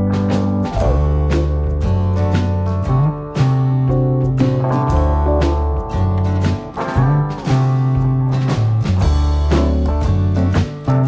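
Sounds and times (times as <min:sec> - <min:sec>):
bass line: 0:00.0 - 0:11.0
guitar: 0:00.0 - 0:11.0
steady drum beat: 0:00.0 - 0:11.0.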